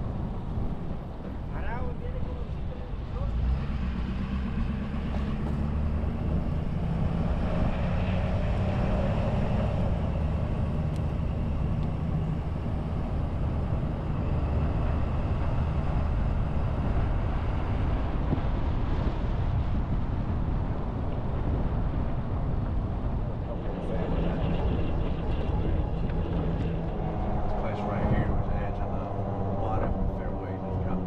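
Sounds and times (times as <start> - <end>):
vehicle engine with road noise: 0.0 - 31.0.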